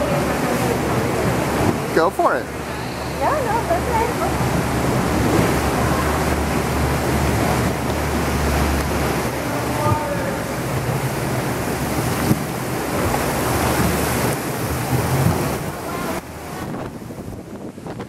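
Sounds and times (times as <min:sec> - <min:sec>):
boat engine humming: 0:00.0 - 0:18.0
water sloshing around boat: 0:00.0 - 0:18.0
wind buffeting microphone: 0:00.0 - 0:18.0.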